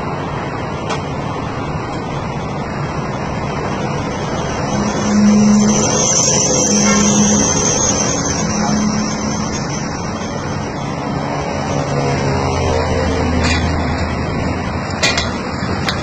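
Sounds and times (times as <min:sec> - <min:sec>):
low hum: 0:00.0 - 0:16.0
truck engine rumbling: 0:00.0 - 0:16.0.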